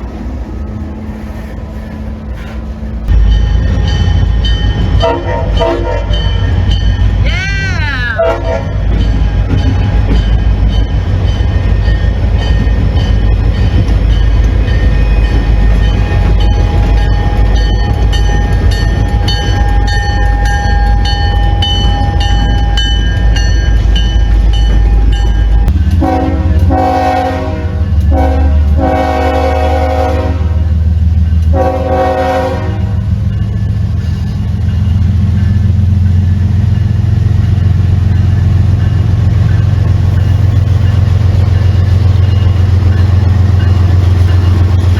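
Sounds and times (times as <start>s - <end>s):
diesel locomotive rumble: 0.0s - 44.9s.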